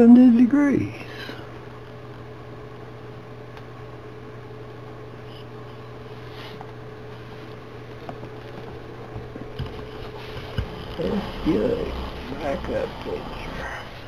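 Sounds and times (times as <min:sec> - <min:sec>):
heater blower fan humming: 0:00.0 - 0:14.0.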